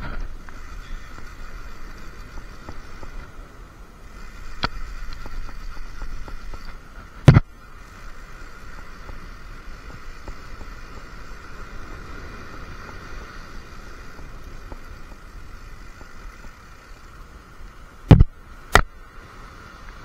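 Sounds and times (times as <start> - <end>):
sea: 0.0 - 20.0
wind hiss: 0.0 - 20.0.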